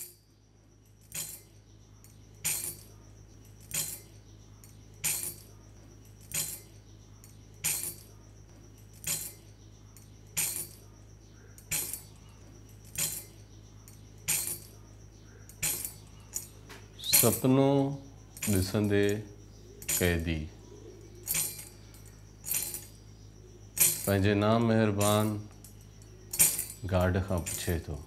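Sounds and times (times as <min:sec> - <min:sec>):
low steady hum: 0:00.0 - 0:28.0
short metallic jingles: 0:00.0 - 0:28.0.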